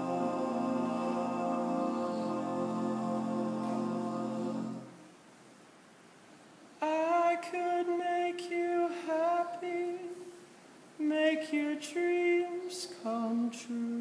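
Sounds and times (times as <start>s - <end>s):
man singing a cappella: 0.0s - 4.9s, 6.8s - 10.4s, 11.0s - 14.0s.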